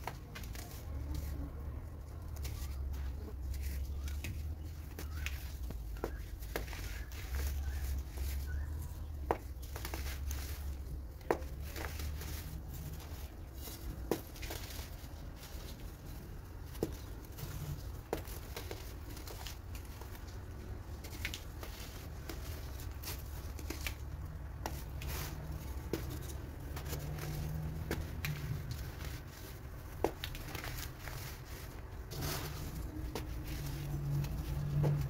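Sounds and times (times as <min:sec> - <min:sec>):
baking soda chunks crunching: 0:02.2 - 0:35.0.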